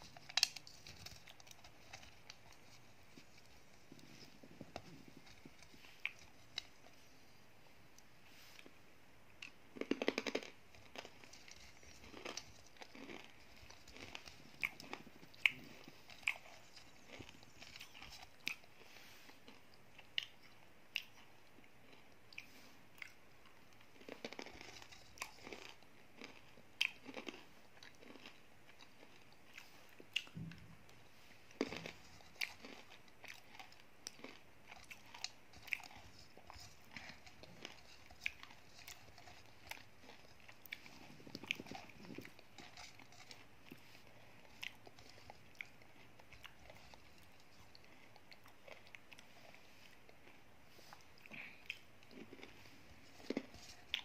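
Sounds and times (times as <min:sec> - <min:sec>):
chewing crunches: 0:00.0 - 0:07.1, 0:09.4 - 0:30.6, 0:31.2 - 0:54.0.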